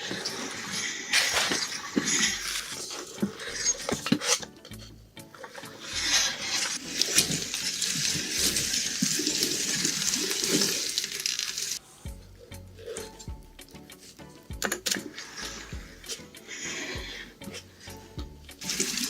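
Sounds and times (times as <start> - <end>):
background music: 0.0 - 11.0, 11.8 - 19.0.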